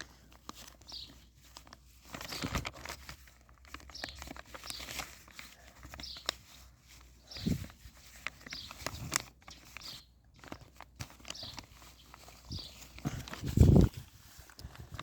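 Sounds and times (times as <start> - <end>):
paper folding and crinkling: 0.0 - 15.0.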